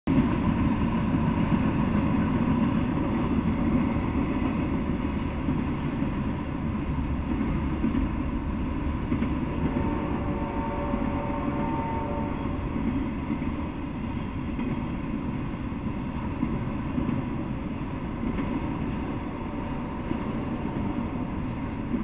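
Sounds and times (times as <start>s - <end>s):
train wheels rumbling on rails: 0.1s - 22.0s.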